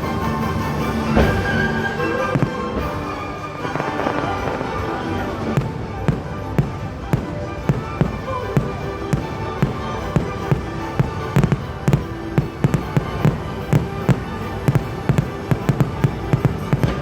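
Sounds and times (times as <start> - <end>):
fireworks bangs: 0.0 - 17.0
music: 0.0 - 17.0.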